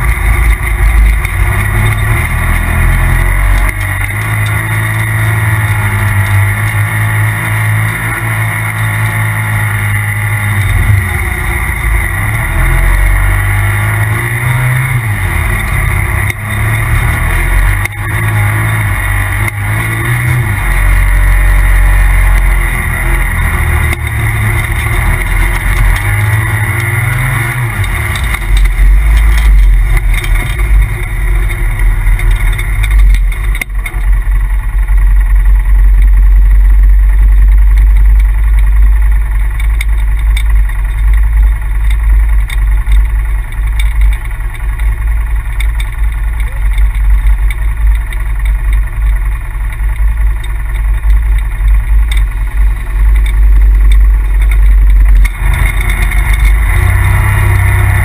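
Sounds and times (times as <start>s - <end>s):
engine revving: 0.0s - 58.0s
heavy low rumble: 0.0s - 58.0s.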